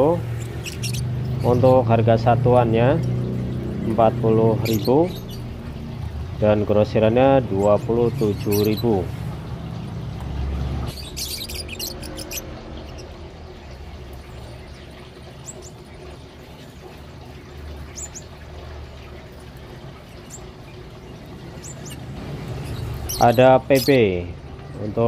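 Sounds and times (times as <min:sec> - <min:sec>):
lovebirds chirping: 0:00.0 - 0:25.0.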